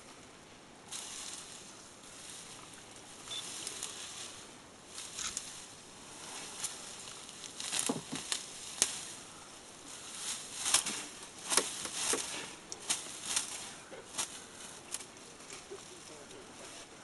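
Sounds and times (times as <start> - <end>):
elephant tearing grass and twigs: 0.9 - 16.4
sharp crackles: 0.9 - 16.8.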